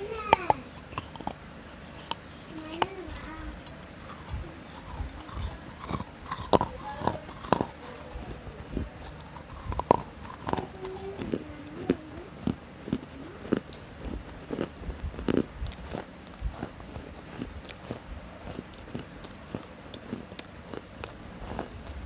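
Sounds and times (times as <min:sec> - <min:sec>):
crunchy snack biting and chewing: 0:00.2 - 0:22.0.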